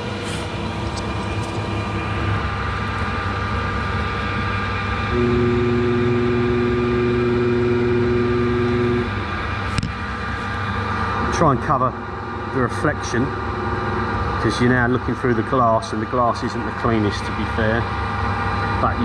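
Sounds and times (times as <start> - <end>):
lathe machine hum: 0.0 - 19.0
two-note machine whine: 0.0 - 19.0.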